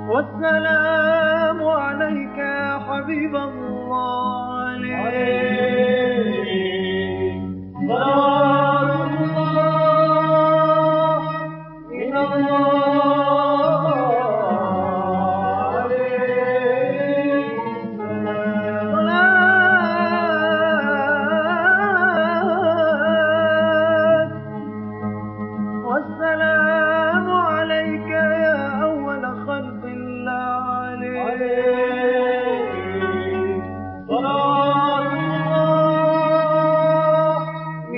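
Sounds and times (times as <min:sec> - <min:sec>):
man singing wordless chant: 0:00.1 - 0:24.3, 0:25.9 - 0:37.5.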